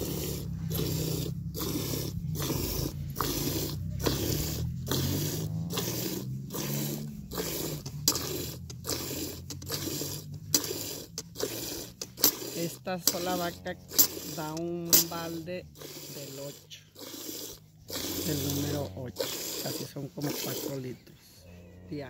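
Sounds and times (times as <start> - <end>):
milk squirting into metal pail: 0.0 - 21.0.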